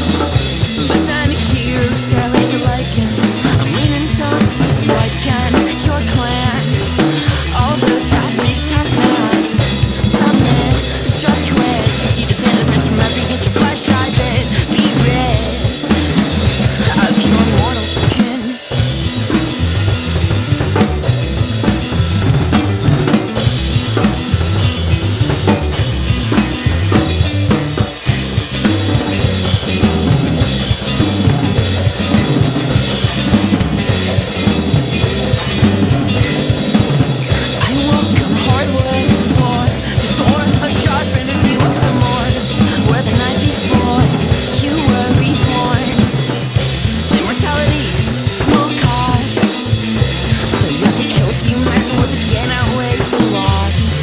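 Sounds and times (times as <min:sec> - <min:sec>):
drum kit playing: 0:00.0 - 0:54.0
recorded rock song: 0:00.0 - 0:54.0.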